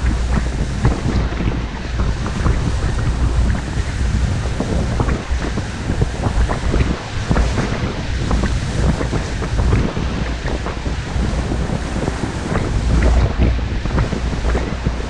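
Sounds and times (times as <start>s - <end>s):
waves washing against shore: 0.0s - 15.0s
wind buffeting microphone: 0.0s - 15.0s.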